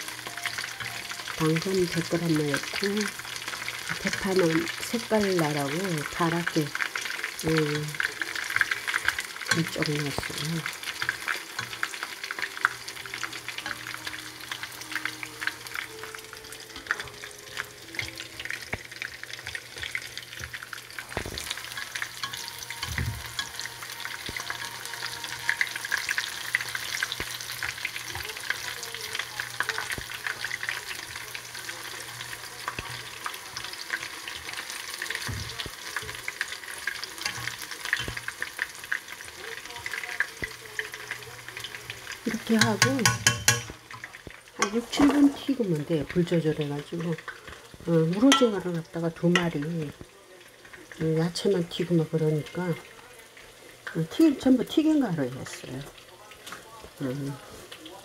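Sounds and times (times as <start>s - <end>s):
fritters deep-frying in oil: 0.0s - 58.0s.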